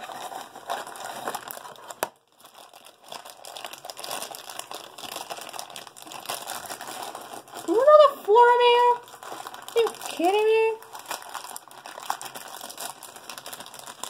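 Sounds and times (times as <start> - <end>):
foil bag crinkling: 0.0 - 14.0.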